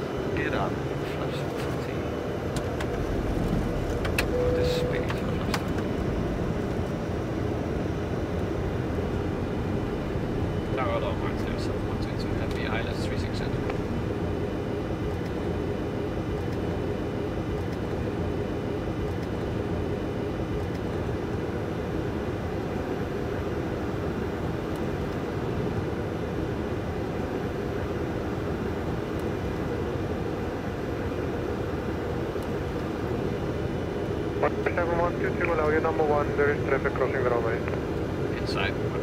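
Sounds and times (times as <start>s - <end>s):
airflow rush and engine hum: 0.0s - 39.0s.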